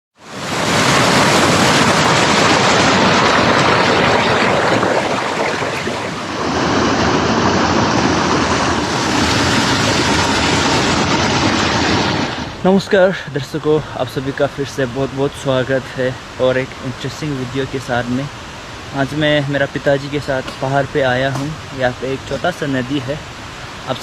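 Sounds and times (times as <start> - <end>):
hill stream rushing: 0.2 - 24.0.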